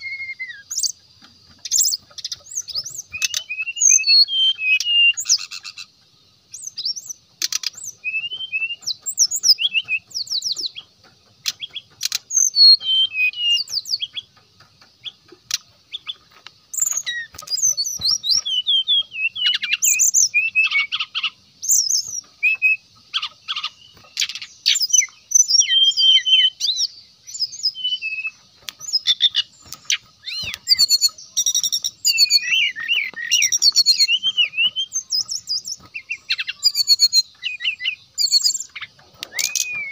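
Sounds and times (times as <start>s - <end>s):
bird singing chirps and whistles: 0.0s - 14.4s, 15.0s - 39.9s.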